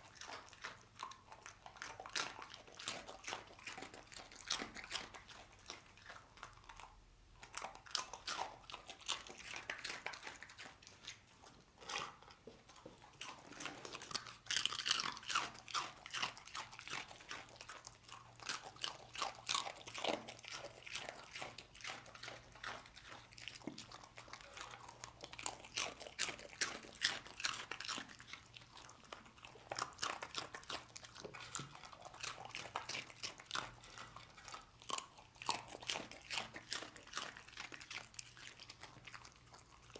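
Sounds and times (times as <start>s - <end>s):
dog crunching dry snacks: 0.0s - 39.9s.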